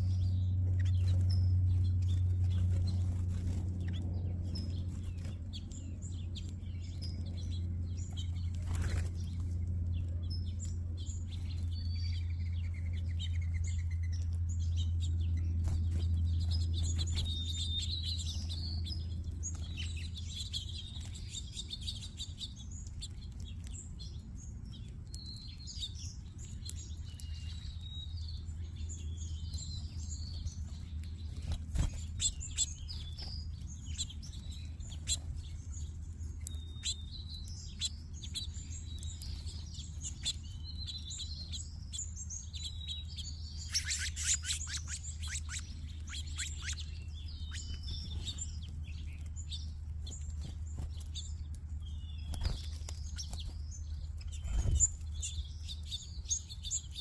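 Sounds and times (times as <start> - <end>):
low background hum: 0.0 - 57.0
songbirds chirping: 0.0 - 57.0.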